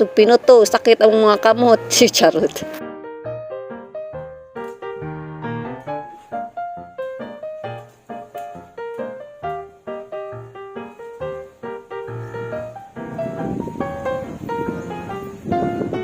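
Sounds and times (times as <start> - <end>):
piano music with bass line: 0.0 - 16.0.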